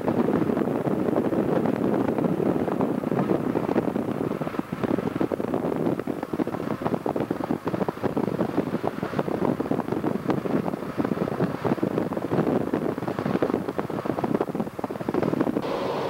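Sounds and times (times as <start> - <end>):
wind buffeting microphone: 0.0 - 16.0
vehicle rumble: 0.1 - 16.0.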